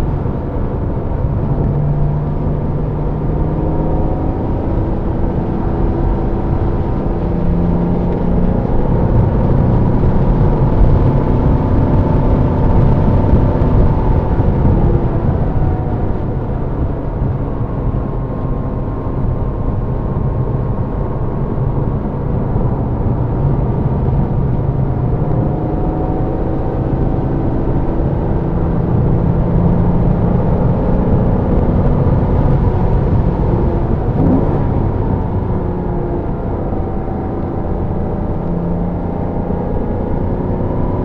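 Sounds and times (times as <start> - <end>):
car engine running hard: 0.0 - 41.0
road and tyre noise: 0.0 - 41.0.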